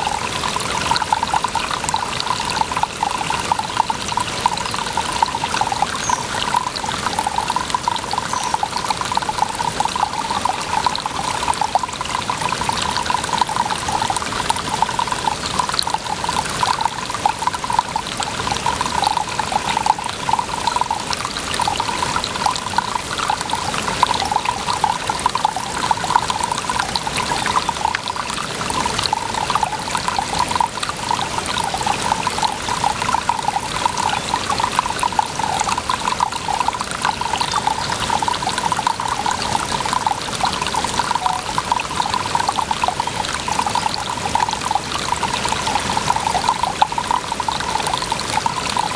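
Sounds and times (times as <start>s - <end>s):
water trickling and splashing: 0.0s - 48.9s.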